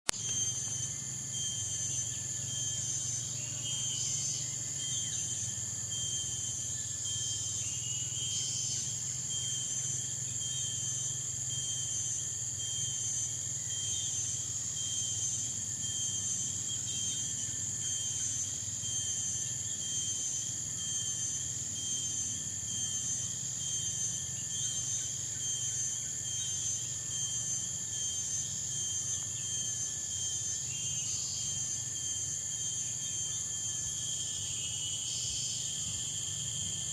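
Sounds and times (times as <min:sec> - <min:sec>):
brief higher insect calls: 0:00.1 - 0:36.9
insects trilling: 0:00.1 - 0:36.9
rapidly pulsing insect chirp: 0:00.1 - 0:36.9.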